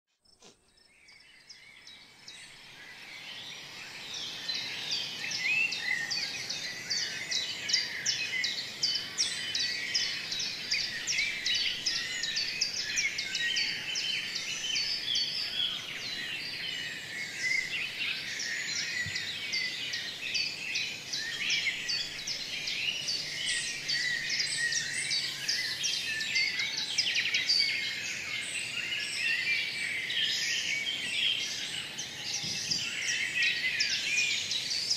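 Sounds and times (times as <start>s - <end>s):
small birds chirping: 0.2s - 34.9s.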